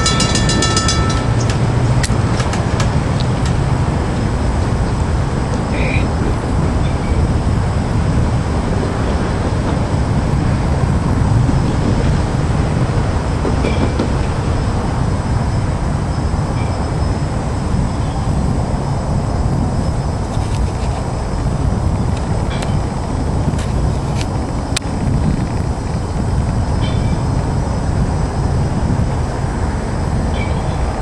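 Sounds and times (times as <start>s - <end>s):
train passing on rails: 0.0s - 31.0s.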